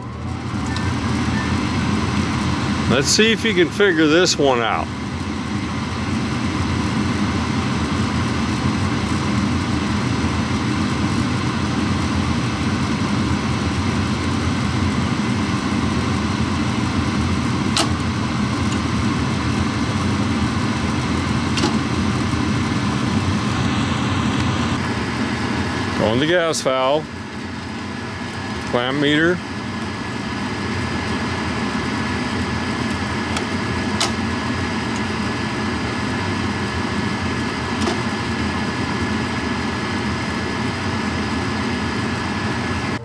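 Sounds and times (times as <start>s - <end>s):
furnace motor running: 0.0s - 43.0s.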